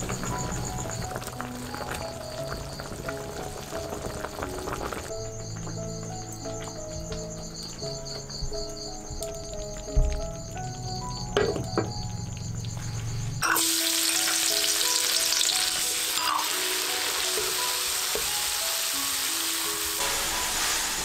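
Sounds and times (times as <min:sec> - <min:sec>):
garlic sizzling in hot oil: 0:00.0 - 0:08.2, 0:12.4 - 0:21.0.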